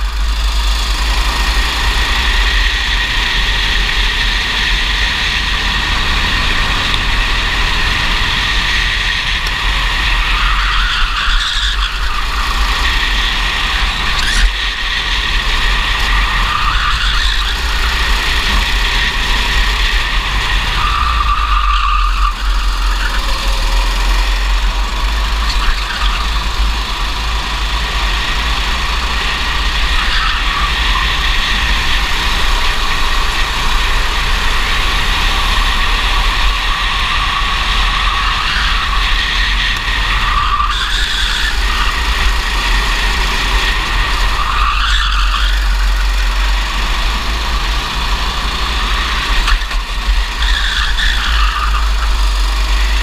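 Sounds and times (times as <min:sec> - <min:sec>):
kart engine at high revs: 0:00.0 - 0:53.0.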